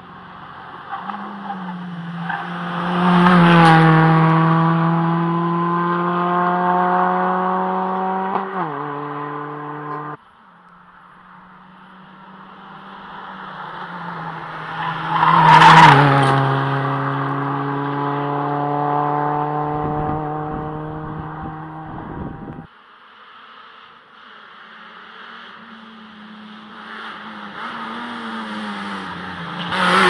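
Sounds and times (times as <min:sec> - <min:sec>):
rally car engine passing: 0:00.0 - 0:10.2, 0:10.8 - 0:30.0.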